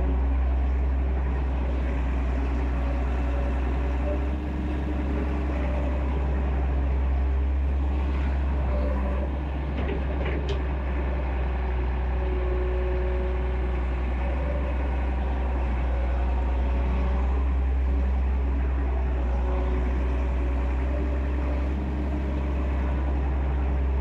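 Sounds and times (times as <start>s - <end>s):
excavator diesel engine rumbling: 0.0s - 24.0s.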